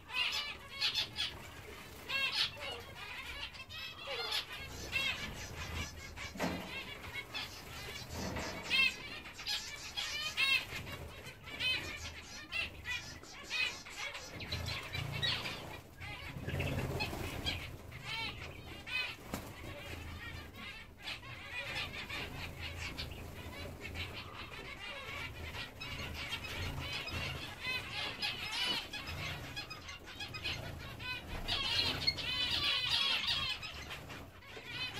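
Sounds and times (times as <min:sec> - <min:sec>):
finches chirping: 0:00.0 - 0:34.9.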